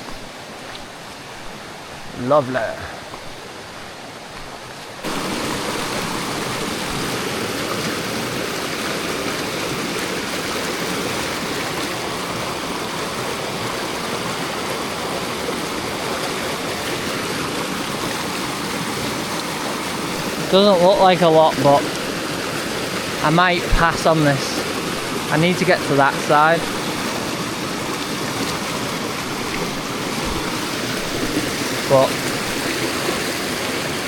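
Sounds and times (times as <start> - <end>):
stream rushing: 0.0 - 34.0.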